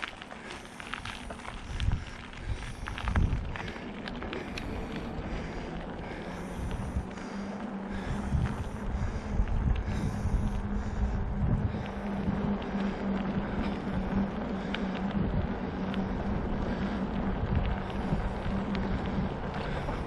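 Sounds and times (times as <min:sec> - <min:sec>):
steady low hum: 0:00.0 - 0:20.0
wind buffeting microphone: 0:00.0 - 0:20.0.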